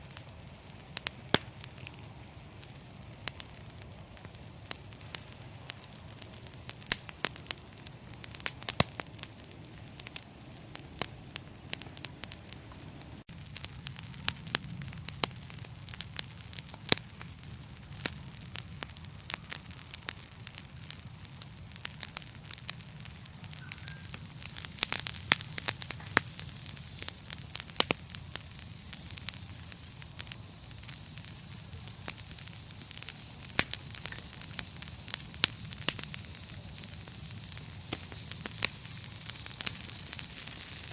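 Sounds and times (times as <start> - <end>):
fire crackling and popping: 0.0 - 40.9
low rumble of fire: 0.0 - 40.9
soft hiss: 0.0 - 40.9.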